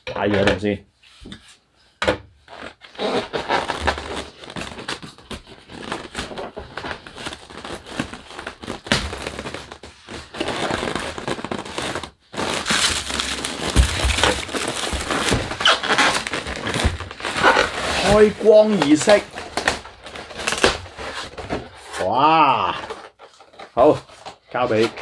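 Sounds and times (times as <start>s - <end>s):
packaging crinkling and rustling: 2.5s - 25.0s.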